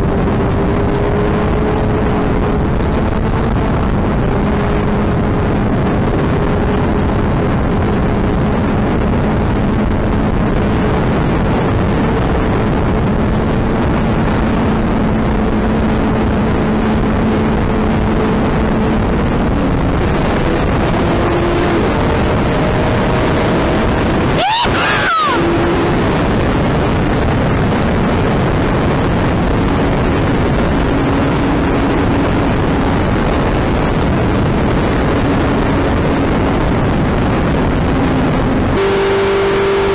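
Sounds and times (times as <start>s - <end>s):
wind noise on microphone: 0.0s - 24.4s, 25.4s - 39.2s.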